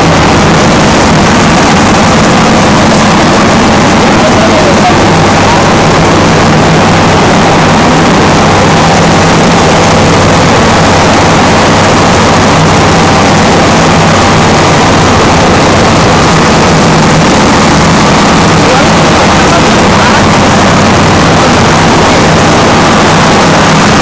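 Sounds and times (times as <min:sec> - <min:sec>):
large engine droning: 0:00.0 - 0:24.0.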